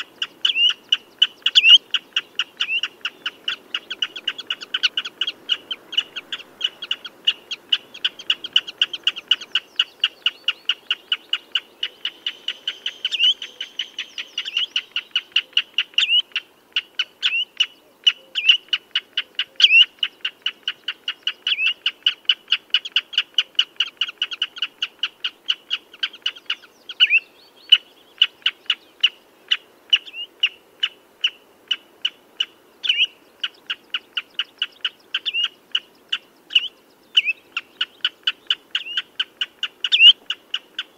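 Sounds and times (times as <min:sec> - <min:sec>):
bird piping calls: 0:00.0 - 0:40.9.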